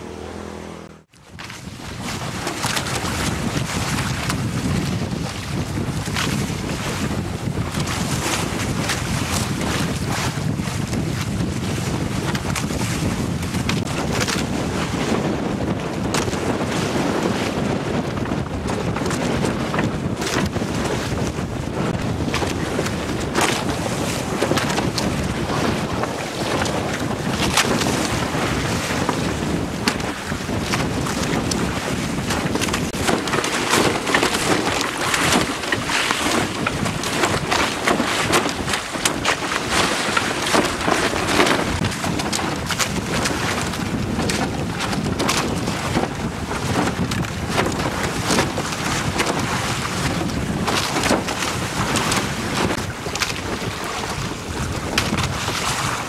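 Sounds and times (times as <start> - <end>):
choppy water slapping hull: 0.0 - 56.0
wind buffeting microphone: 0.0 - 56.0.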